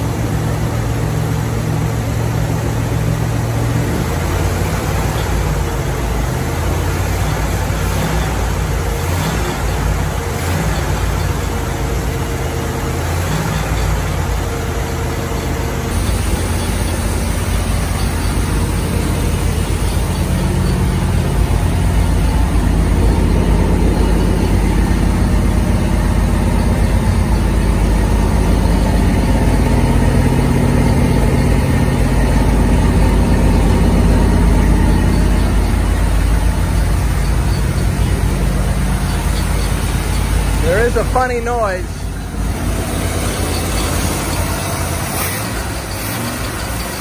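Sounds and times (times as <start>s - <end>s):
car engine running steadily: 0.0s - 47.0s.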